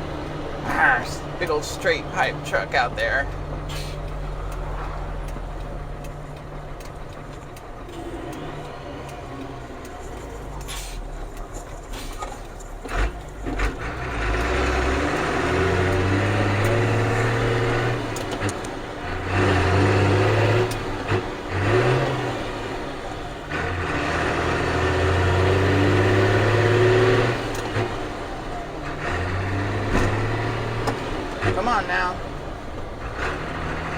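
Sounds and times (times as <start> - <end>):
diesel engine accelerating: 0.0 - 33.9.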